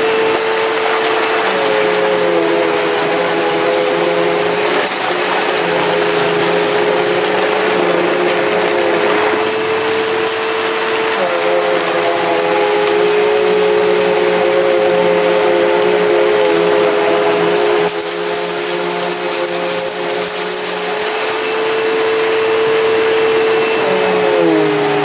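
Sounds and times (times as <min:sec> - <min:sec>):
vacuum cleaner motor hum: 0:00.0 - 0:25.0.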